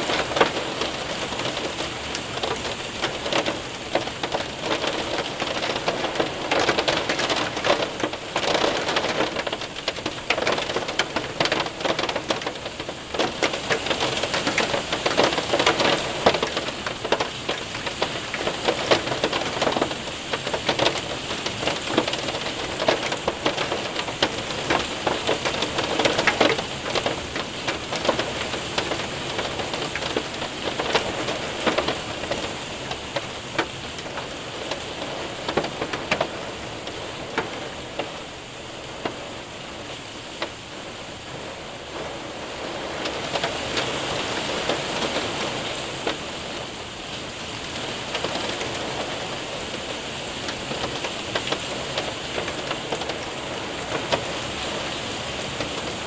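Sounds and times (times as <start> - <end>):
hailstones ticking on window: 0.0 - 56.0
rain hissing: 0.0 - 56.0.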